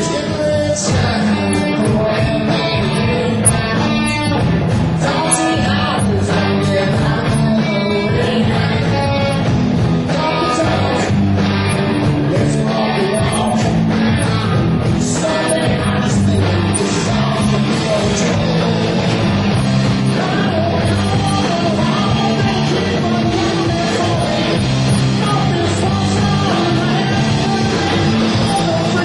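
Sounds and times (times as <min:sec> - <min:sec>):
bass guitar: 0:00.0 - 0:29.0
drums: 0:00.0 - 0:29.0
electric guitars: 0:00.0 - 0:29.0
person singing: 0:00.0 - 0:29.0.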